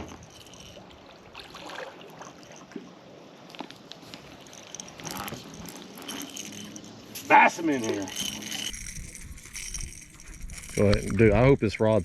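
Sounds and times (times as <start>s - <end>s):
water trickling and lapping: 0.0s - 11.3s.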